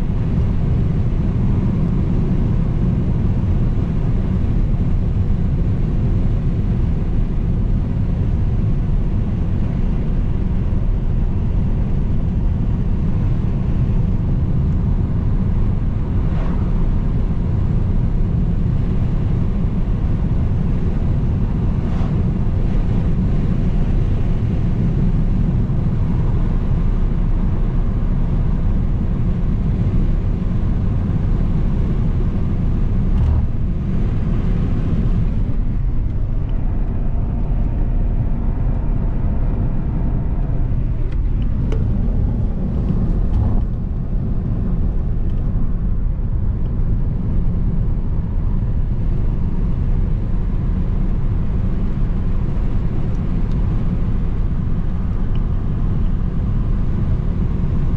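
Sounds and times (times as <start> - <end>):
car road and engine rumble: 0.0 - 57.9.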